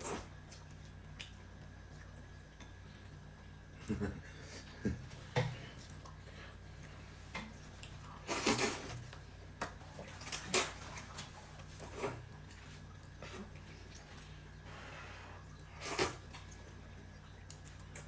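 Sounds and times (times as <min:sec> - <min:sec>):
chewing: 0:00.0 - 0:03.6, 0:05.4 - 0:14.6, 0:15.4 - 0:18.0
faint steady hum: 0:00.0 - 0:18.0
people eating at a table: 0:00.0 - 0:18.0.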